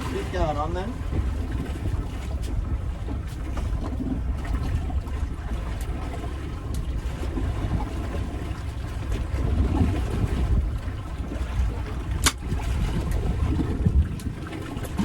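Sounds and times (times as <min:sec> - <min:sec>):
sea noise: 0:00.0 - 0:15.0
wind buffeting microphone: 0:00.0 - 0:15.0.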